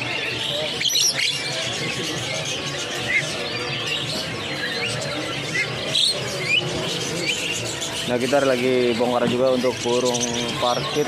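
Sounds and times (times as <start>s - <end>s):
caged birds chirping and squawking: 0.0s - 11.0s
steady background noise: 0.0s - 11.0s.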